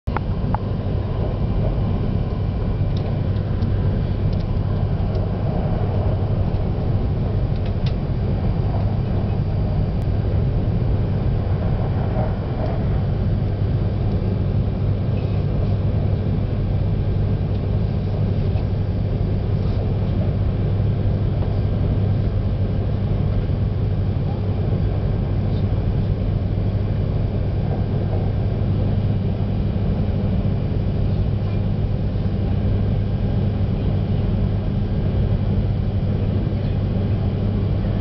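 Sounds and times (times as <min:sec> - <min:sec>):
train running rumble: 0:00.1 - 0:38.0.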